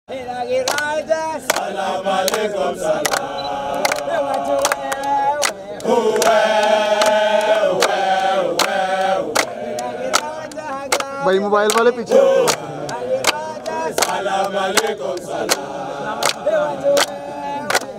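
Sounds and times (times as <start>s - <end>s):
men singing in harmony: 0.1s - 17.9s
hand claps: 0.6s - 17.9s.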